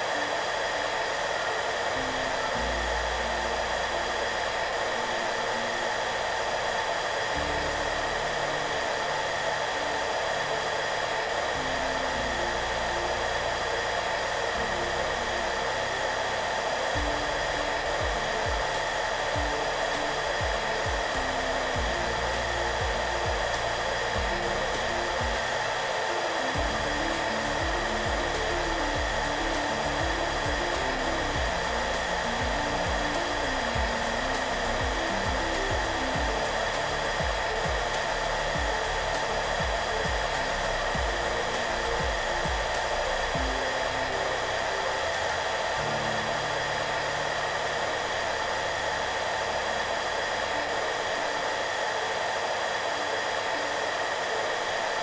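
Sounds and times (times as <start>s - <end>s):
hair dryer running: 0.0s - 55.0s
soft background music: 0.0s - 55.0s.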